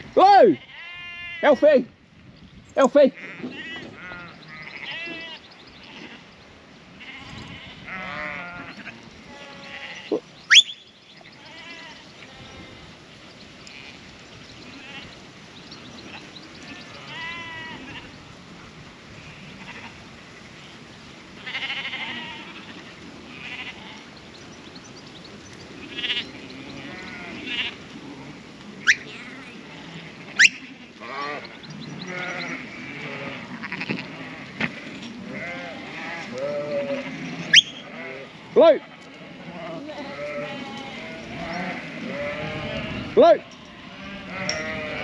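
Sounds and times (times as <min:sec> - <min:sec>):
sheep and lambs bleating: 0:00.2 - 0:01.8, 0:02.8 - 0:13.0, 0:13.6 - 0:15.2, 0:15.9 - 0:18.2, 0:19.2 - 0:20.0, 0:21.4 - 0:24.2, 0:25.8 - 0:45.0.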